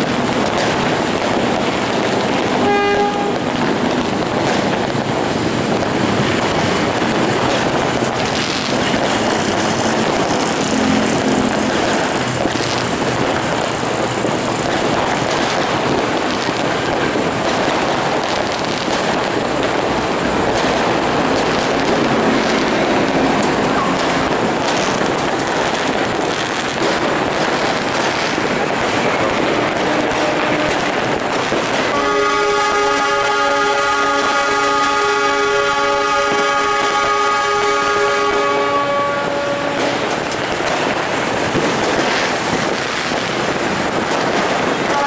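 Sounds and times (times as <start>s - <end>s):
fireworks crackling and popping: 0.0s - 45.0s.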